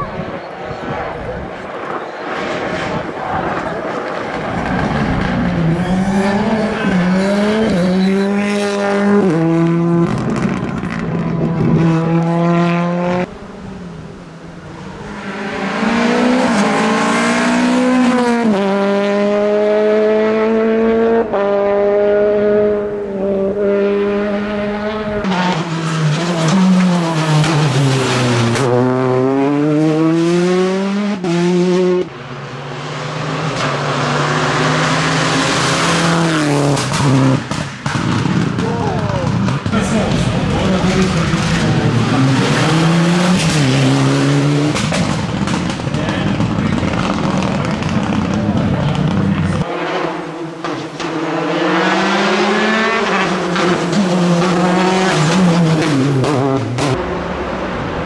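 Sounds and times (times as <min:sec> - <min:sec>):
rally cars passing at high revs: 0:00.0 - 0:58.0.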